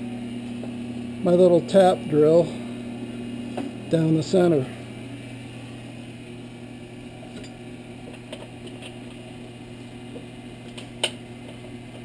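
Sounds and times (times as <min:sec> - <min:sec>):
electric hum: 0:00.0 - 0:12.0.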